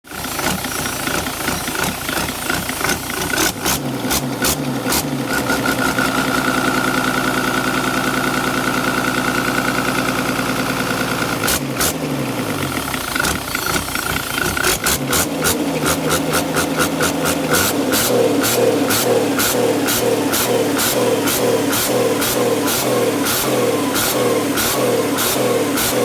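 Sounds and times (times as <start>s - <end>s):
diesel engine revving: 0.1s - 26.0s.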